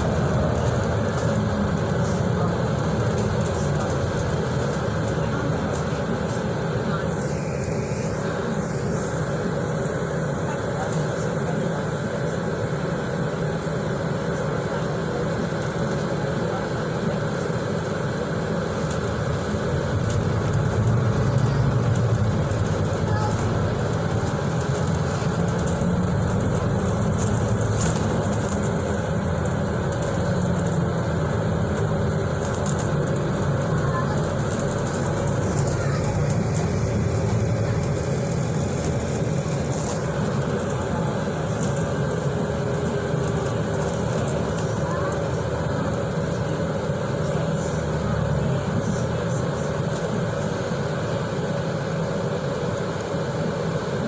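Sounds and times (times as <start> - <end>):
bus engine drone: 0.0 - 54.0
road and tyre noise: 0.0 - 54.0.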